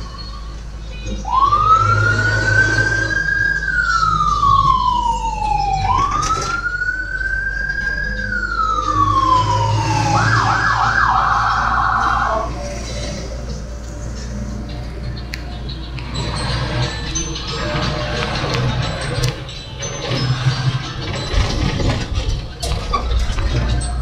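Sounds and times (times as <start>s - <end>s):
electronic emergency siren wailing: 0.0s - 24.0s.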